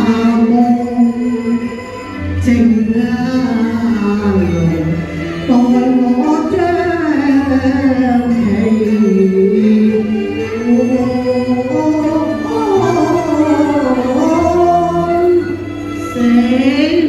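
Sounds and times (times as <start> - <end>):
instrumental accompaniment: 0.0 - 17.0
woman singing opera: 0.0 - 17.0.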